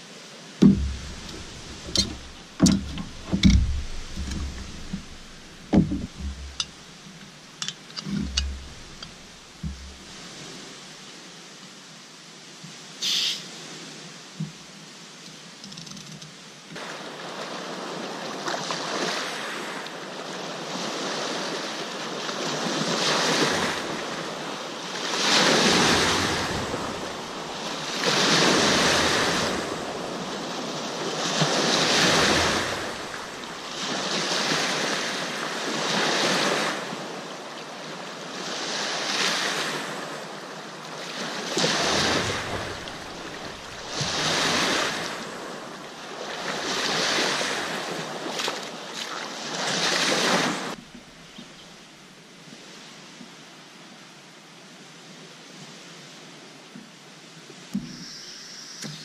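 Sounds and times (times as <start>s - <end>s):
waves washing onto sandy shore: 0.0s - 15.6s, 16.3s - 59.0s.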